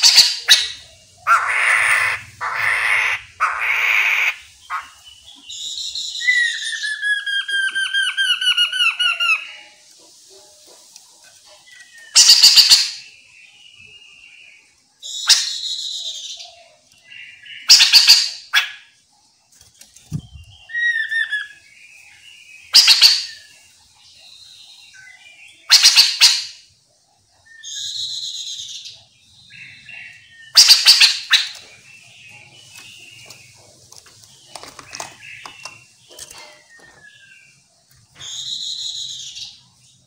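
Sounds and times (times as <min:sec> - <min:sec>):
birds chattering calls: 0:00.0 - 0:40.0.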